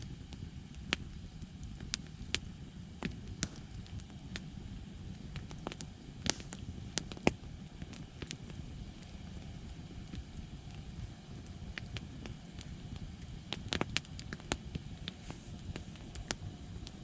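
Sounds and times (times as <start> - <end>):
campfire crackles and pops: 0.0 - 17.0
fire low rumble: 0.0 - 17.0.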